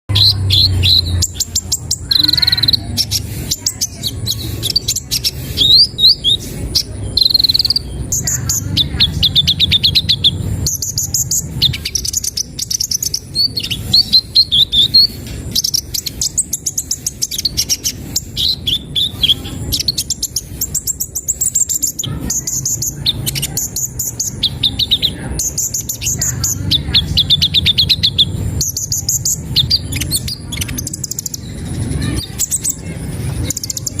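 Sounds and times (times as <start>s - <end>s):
steady low hum: 0.1s - 34.0s
sunbird singing trills and chirps: 0.1s - 34.0s.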